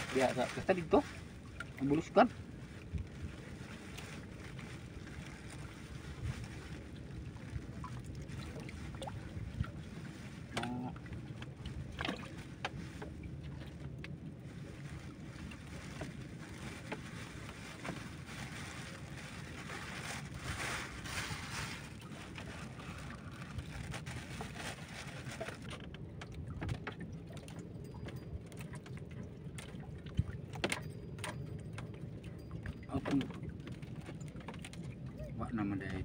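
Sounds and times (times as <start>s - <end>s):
water lapping against boat hull: 0.0s - 36.0s.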